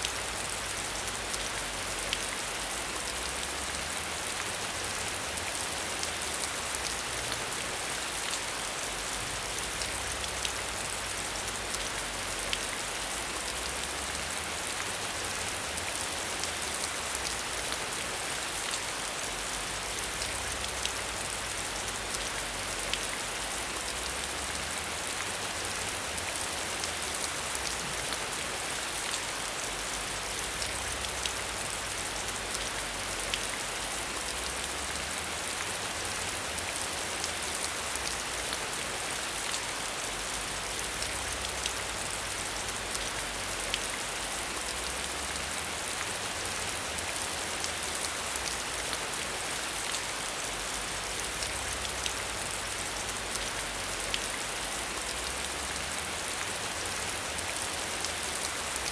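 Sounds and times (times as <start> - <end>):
raindrops ticking on surface: 0.0 - 58.9
steady rain falling: 0.0 - 58.9.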